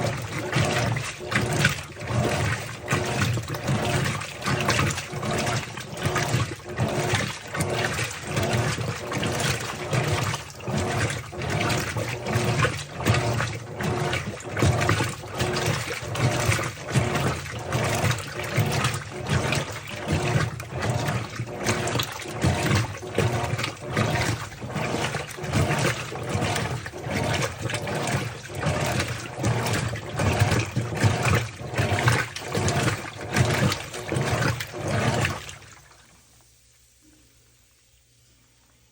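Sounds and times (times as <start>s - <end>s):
water sloshing: 0.0s - 36.4s
washing machine agitating: 0.0s - 37.8s.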